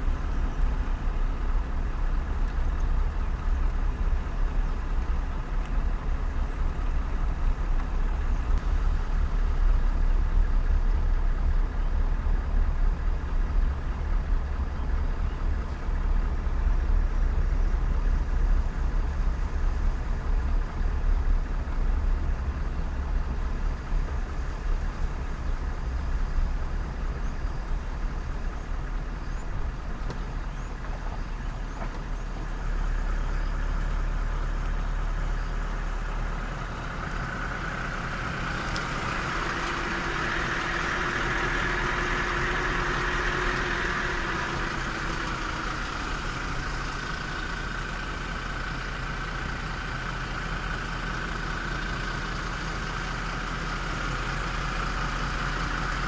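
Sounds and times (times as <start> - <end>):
car engines idling: 0.0 - 56.0.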